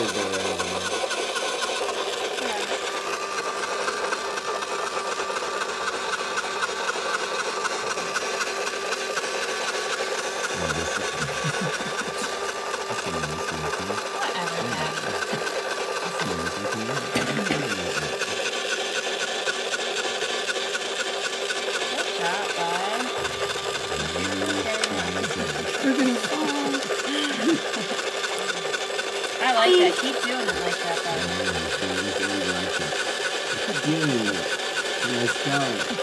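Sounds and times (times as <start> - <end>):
fast even ticking of drive: 0.0 - 36.0
small electric motor whirring: 0.0 - 36.0.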